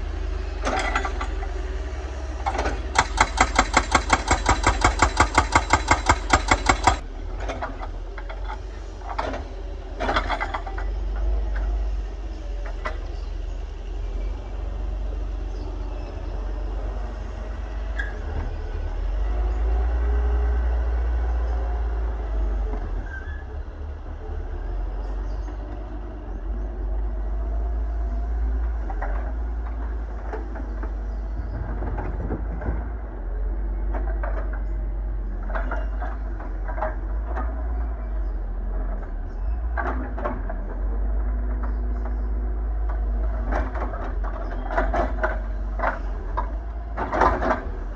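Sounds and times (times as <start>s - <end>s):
excavator diesel engine rumbling: 0.0s - 47.9s.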